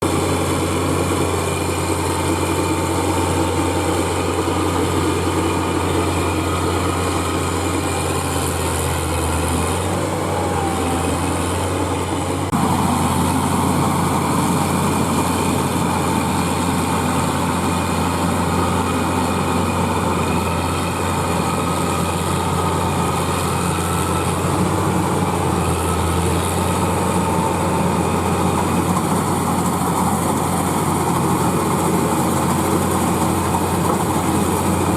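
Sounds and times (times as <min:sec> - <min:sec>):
combine harvester engine: 0:00.0 - 0:34.9.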